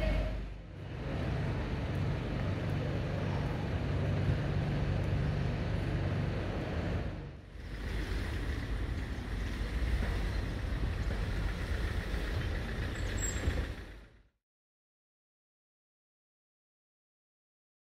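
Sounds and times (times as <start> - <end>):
low street rumble: 0.0 - 14.4.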